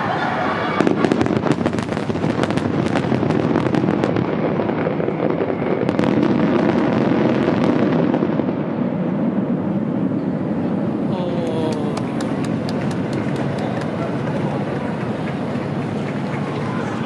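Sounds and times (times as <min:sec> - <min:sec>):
fireworks bursting and crackling: 0:00.6 - 0:17.0.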